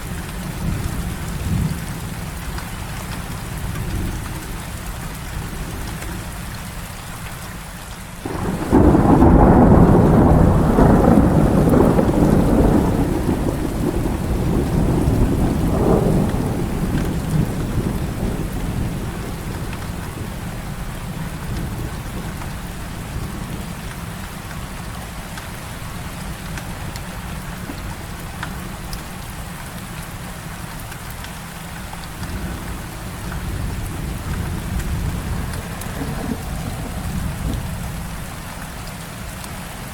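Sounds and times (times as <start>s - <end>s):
thunderclap and rumble: 0.0s - 6.4s, 8.2s - 39.5s
heavy rain: 0.0s - 39.9s.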